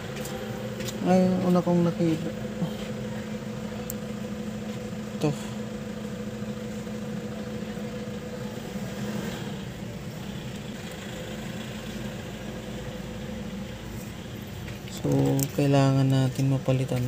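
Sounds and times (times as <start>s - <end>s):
engine humming at idle: 0.0s - 17.0s.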